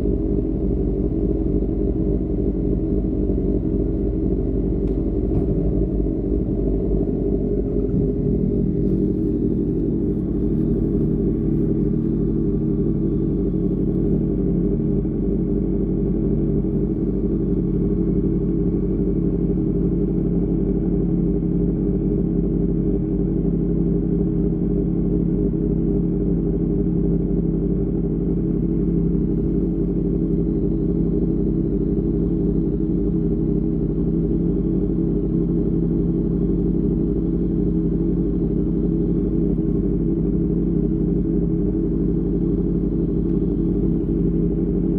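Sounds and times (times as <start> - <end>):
motorcycle exhaust at steady revs: 0.0 - 44.9.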